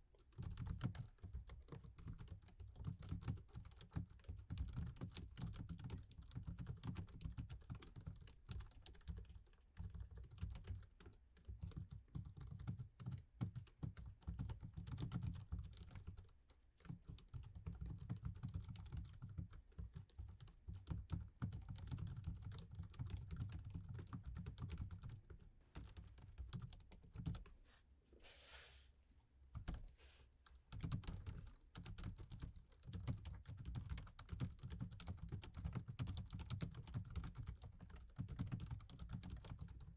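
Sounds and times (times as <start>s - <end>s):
laptop keyboard typing: 0.2s - 27.5s, 29.6s - 29.9s, 30.5s - 39.9s.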